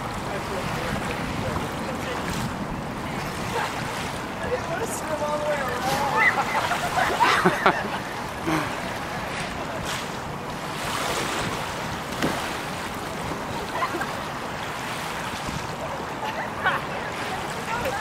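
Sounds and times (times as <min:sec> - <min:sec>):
choppy lake water: 0:00.0 - 0:18.0
wind on microphone: 0:00.0 - 0:18.0.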